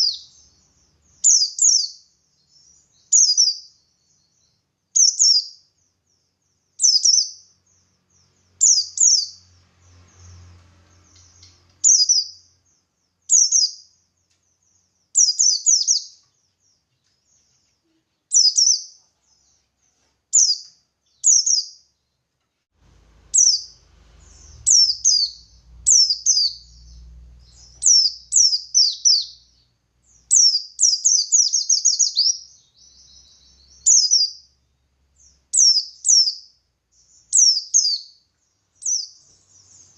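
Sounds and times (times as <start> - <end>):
bird chirping: 0.0 - 22.4, 23.0 - 39.9.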